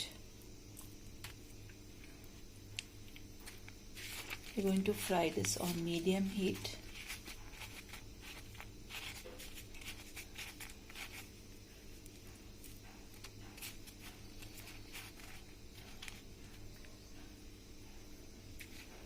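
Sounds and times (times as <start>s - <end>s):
steady low hum: 0.0s - 19.0s
rustling and crunching of coating: 0.4s - 17.3s, 18.4s - 19.0s.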